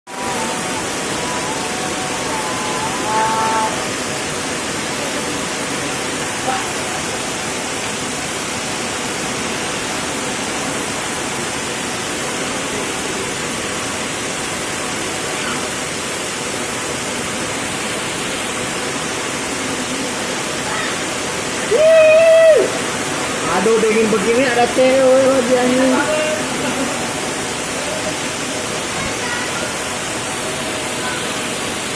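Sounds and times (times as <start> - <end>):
heavy rain pouring: 0.1 - 31.9.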